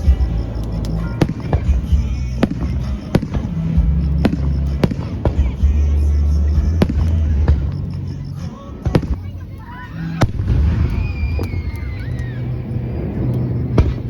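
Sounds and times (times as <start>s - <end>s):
firework bangs: 0.0s - 14.0s
heavy low rumble: 0.0s - 14.0s.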